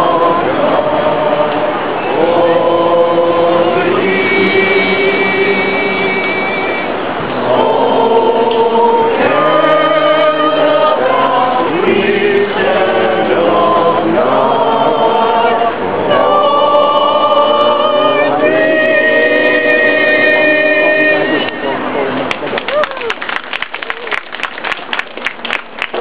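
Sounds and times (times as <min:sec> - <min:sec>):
group of voices singing: 0:00.0 - 0:21.7.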